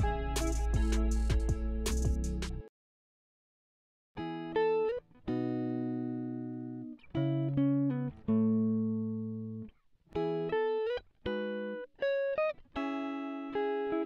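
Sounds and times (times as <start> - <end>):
plucked string music: 0.0 - 2.7, 4.2 - 14.0.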